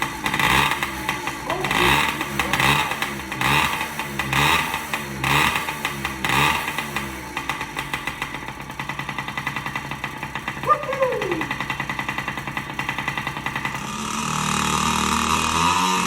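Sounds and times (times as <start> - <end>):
two-stroke engine revving and idling: 0.0 - 16.0.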